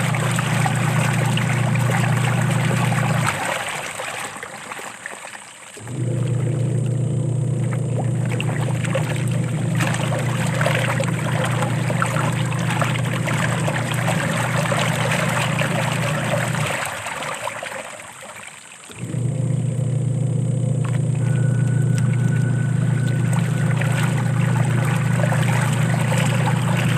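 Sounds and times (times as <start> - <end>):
washing machine motor hum: 0.0 - 4.8, 5.8 - 18.0, 18.8 - 26.9
water running and trickling: 0.0 - 26.9.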